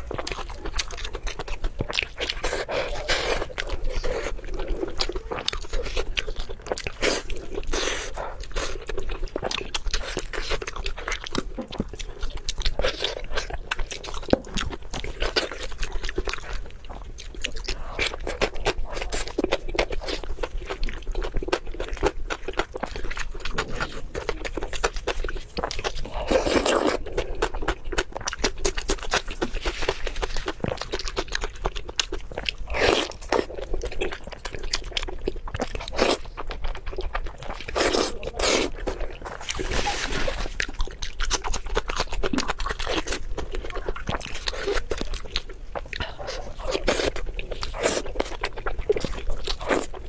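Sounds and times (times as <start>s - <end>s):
chewing and crunching: 0.0s - 50.0s.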